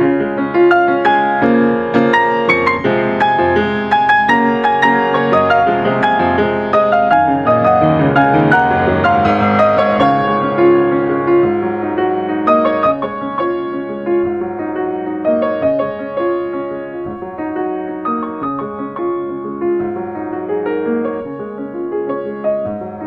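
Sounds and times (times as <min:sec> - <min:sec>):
solo grand piano melody: 0:00.0 - 0:23.0.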